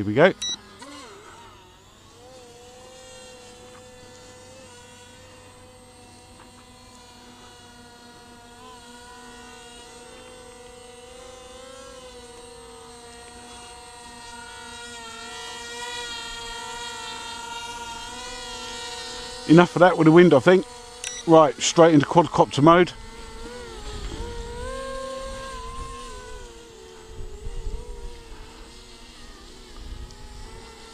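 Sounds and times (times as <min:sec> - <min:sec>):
rc plane motors whining: 0:00.0 - 0:30.9.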